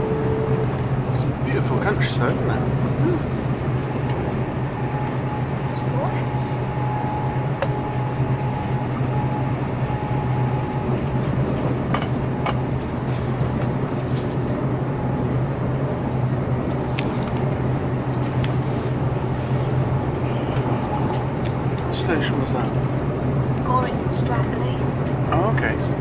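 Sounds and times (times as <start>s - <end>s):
rumble from the track: 0.0s - 26.0s
train interior hum: 0.0s - 26.0s.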